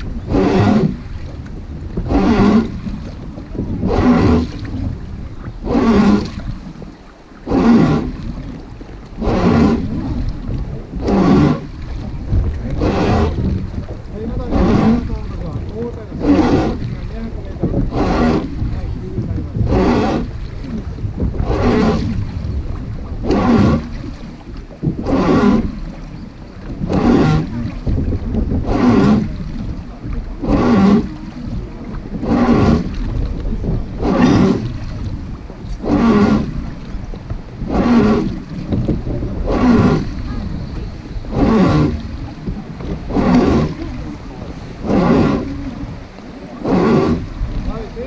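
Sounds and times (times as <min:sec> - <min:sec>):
wooden oars creaking: 0:00.0 - 0:48.0.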